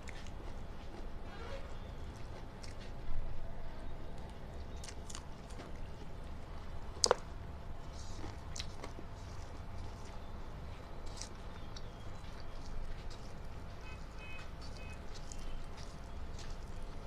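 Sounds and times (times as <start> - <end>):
person chewing food: 0.0 - 1.2, 1.8 - 3.2, 3.9 - 17.0.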